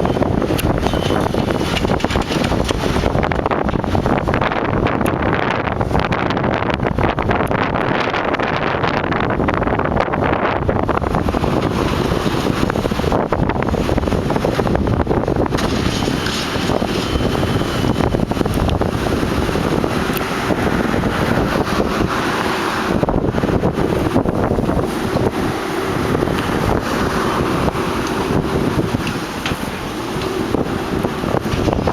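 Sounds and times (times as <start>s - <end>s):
demolition machinery running: 0.0s - 31.9s
wind buffeting microphone: 0.0s - 31.9s.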